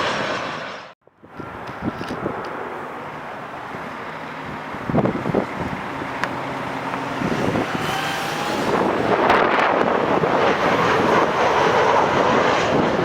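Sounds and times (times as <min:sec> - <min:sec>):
jet airliner engine noise: 0:00.0 - 0:13.0
wind buffeting microphone: 0:01.2 - 0:02.6, 0:03.6 - 0:13.0.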